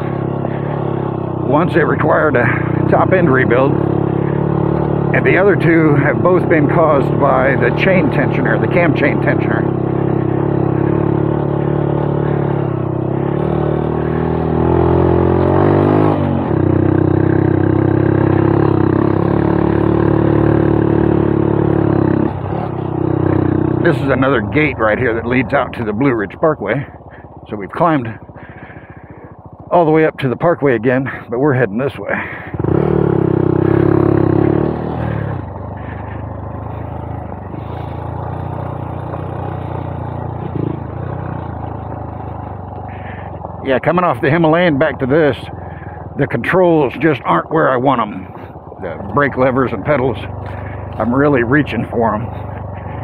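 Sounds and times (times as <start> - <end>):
motorcycle engine revving under load: 0.0 - 53.0.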